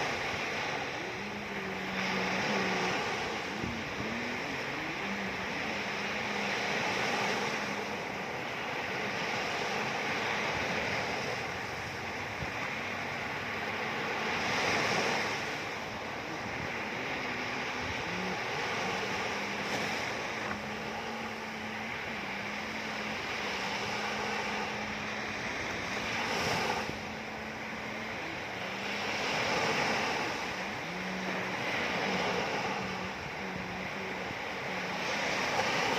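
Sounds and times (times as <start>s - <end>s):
low steady hum: 0.0s - 35.9s
ocean waves washing in: 0.0s - 35.9s.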